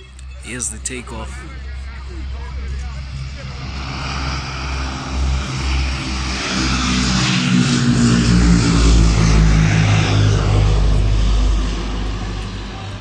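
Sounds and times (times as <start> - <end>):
turboprop aircraft passing: 0.0 - 13.0.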